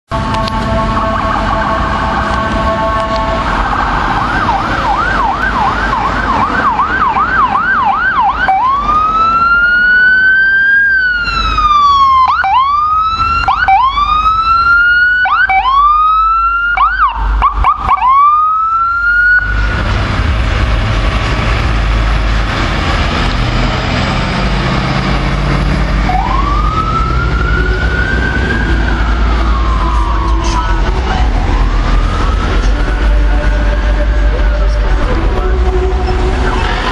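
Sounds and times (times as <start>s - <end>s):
ambulance siren: 0.1s - 19.9s, 24.6s - 36.9s
engine and road rumble: 0.1s - 36.9s.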